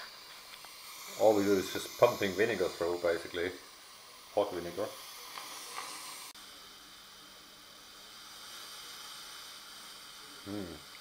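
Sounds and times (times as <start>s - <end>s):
espresso machine hissing: 0.0s - 11.0s
faint hum: 0.0s - 11.0s.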